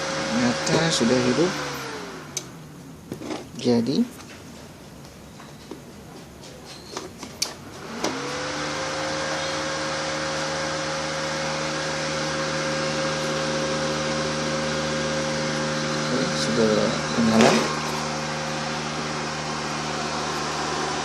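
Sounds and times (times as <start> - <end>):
welder cooling fan running: 0.0 - 5.1, 7.4 - 21.0.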